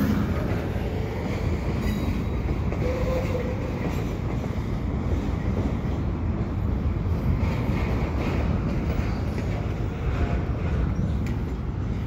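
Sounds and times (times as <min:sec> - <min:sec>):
train rumbling slowly: 0:00.0 - 0:12.0.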